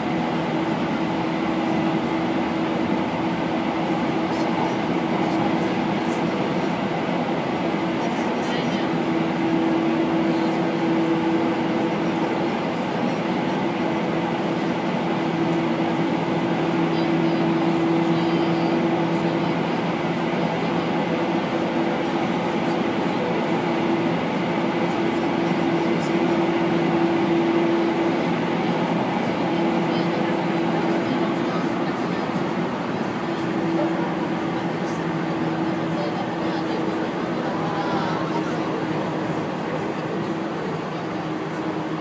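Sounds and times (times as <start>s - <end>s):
constant hum: 0.0s - 42.0s
train wheels rumbling on rails: 0.0s - 42.0s.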